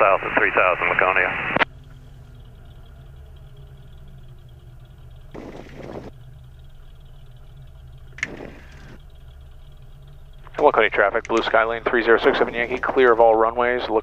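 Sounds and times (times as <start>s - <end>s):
plane piston engine drone: 0.0s - 14.0s.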